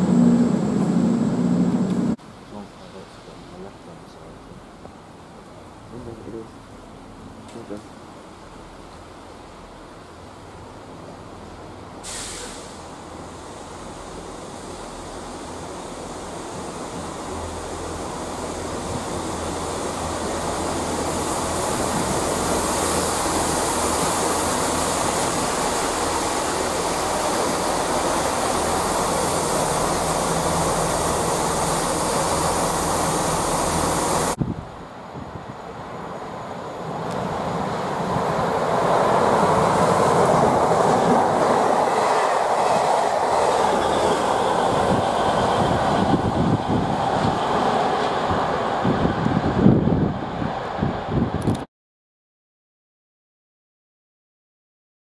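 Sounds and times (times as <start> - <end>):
second train approaching: 0.0 - 51.4
diesel train passing: 0.0 - 51.5.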